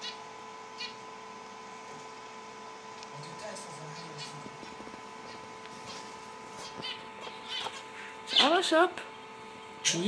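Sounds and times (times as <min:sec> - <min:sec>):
faint hum tones: 0:00.0 - 0:10.0.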